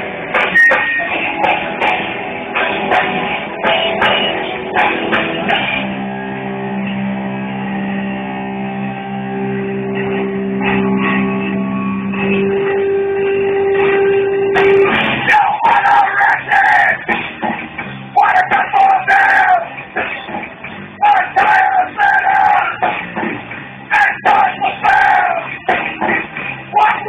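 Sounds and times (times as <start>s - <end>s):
drums: 0.0s - 27.0s
live rock band: 0.0s - 27.0s.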